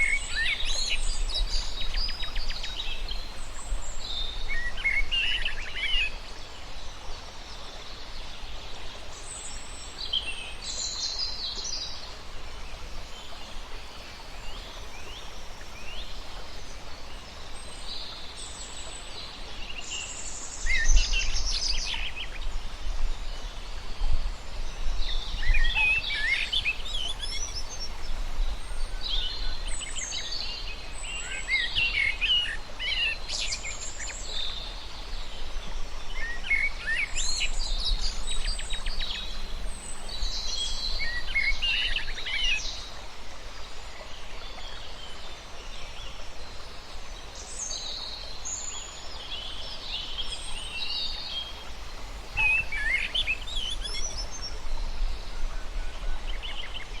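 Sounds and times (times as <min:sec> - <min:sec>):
wild birds singing and chirping: 0:00.0 - 0:57.0.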